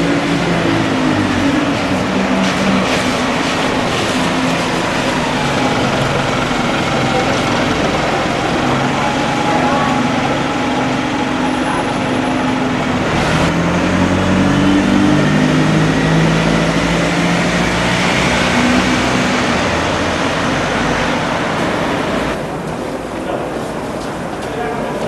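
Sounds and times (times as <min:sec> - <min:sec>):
large vehicle engine running: 0:00.0 - 0:22.8
traffic noise: 0:00.0 - 0:25.0.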